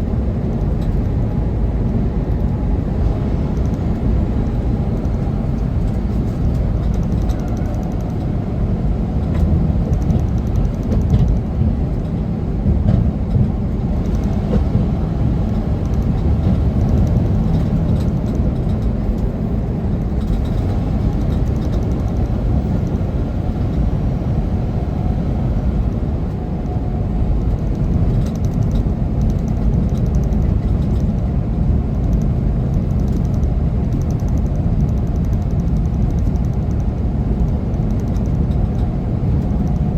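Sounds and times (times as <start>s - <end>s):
diesel truck engine rumble: 0.0s - 39.9s
road noise: 0.0s - 39.9s.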